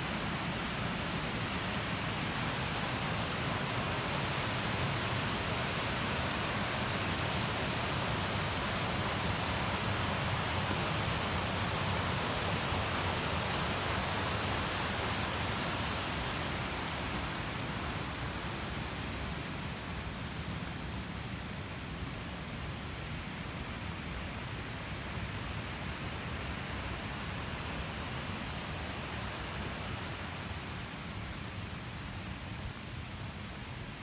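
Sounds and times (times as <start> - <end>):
mountain stream rushing over rocks: 0.0 - 34.0.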